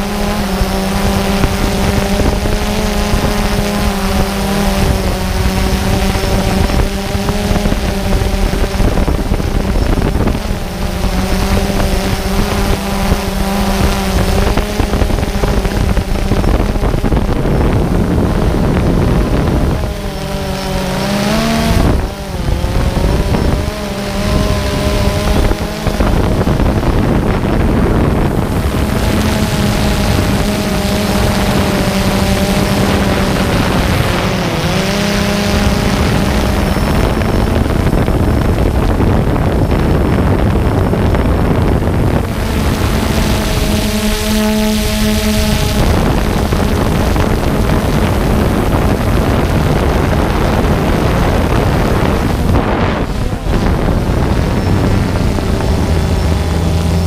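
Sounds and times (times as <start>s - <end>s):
drone propellers buzzing: 0.0s - 57.0s
wind noise: 0.0s - 57.0s.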